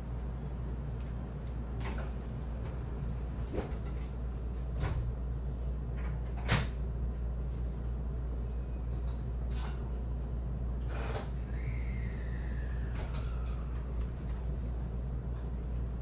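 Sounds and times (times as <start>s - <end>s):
train rumble inside carriage: 0.0s - 16.0s.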